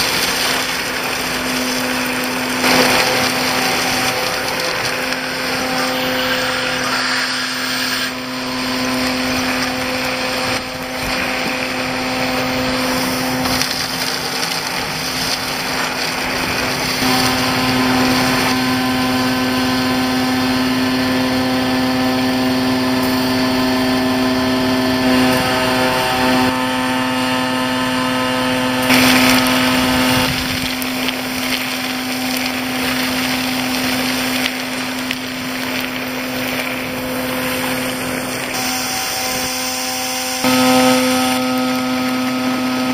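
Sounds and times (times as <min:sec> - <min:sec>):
hose sucking gravel: 0:00.0 - 0:21.6, 0:28.8 - 0:42.9
vacuum truck suction blower: 0:00.0 - 0:42.9.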